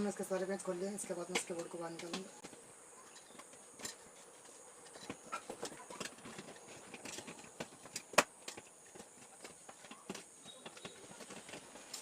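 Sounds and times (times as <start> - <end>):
small clicks and knocks: 0.4 - 12.0.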